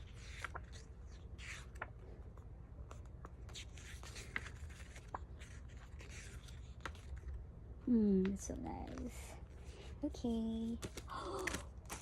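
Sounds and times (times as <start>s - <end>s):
book pages turning: 0.0s - 7.4s, 8.2s - 12.0s.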